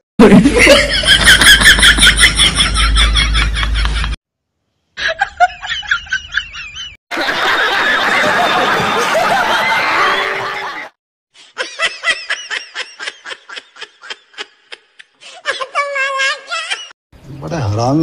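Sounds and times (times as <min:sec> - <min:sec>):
crowd laughing: 0:00.2 - 0:04.2, 0:05.0 - 0:16.9.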